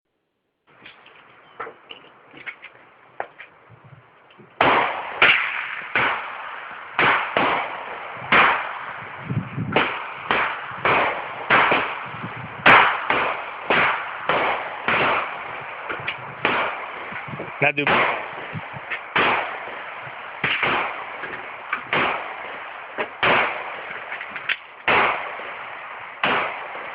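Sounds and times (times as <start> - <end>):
gunshots: 4.6 - 26.9.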